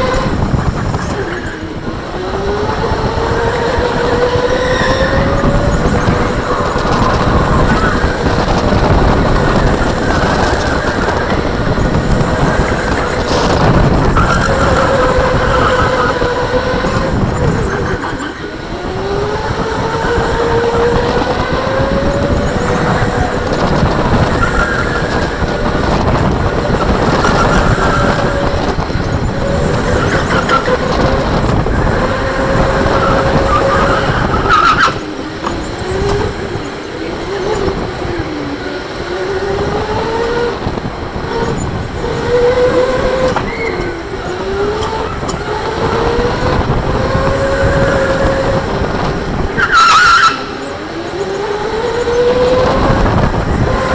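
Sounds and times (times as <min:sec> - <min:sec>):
electric go-kart motor whining: 0:00.0 - 0:53.9
kart rolling on concrete: 0:00.0 - 0:53.9.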